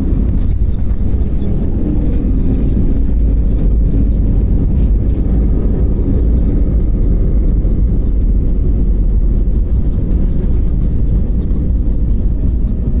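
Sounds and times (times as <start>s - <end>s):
airliner wheels and engines rumbling: 0.0s - 13.0s.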